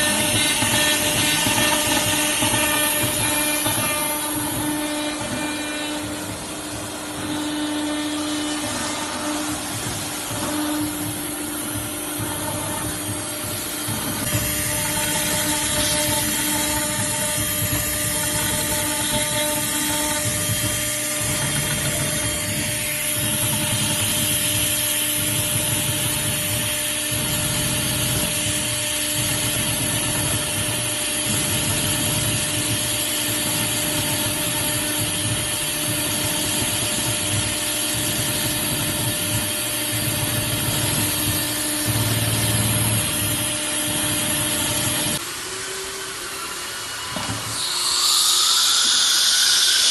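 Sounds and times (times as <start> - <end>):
metal cutting hiss: 0.0 - 49.9
router spindle whine: 0.0 - 49.9.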